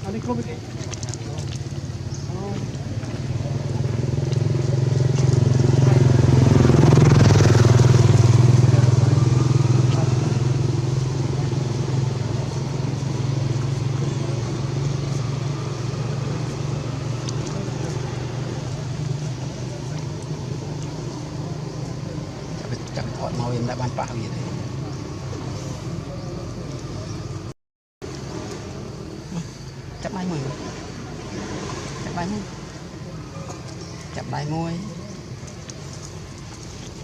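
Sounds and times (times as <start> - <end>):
vehicle engine passing by: 0.8 - 37.0.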